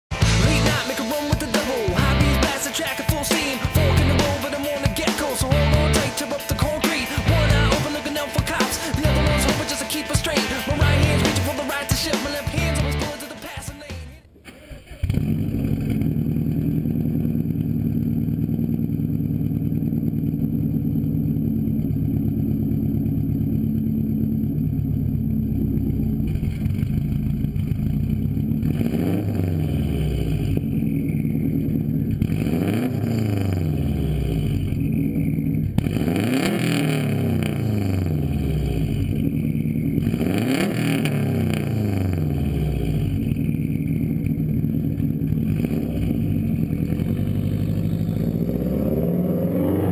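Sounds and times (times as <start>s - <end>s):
engine revving: 0.1s - 14.3s, 14.9s - 49.9s
car engine idling: 0.1s - 49.9s.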